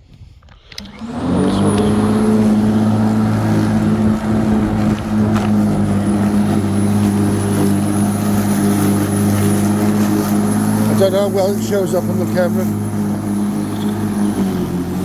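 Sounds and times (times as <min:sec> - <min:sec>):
electric lawnmower humming: 0:00.7 - 0:15.0.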